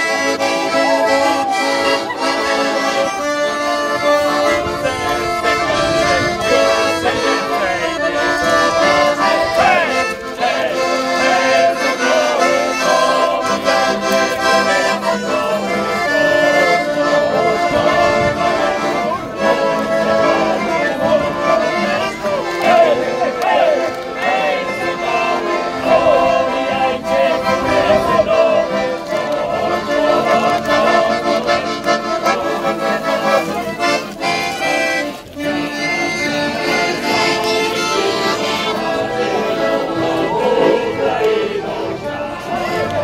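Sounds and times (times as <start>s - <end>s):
accordions playing a tune: 0.0s - 43.0s.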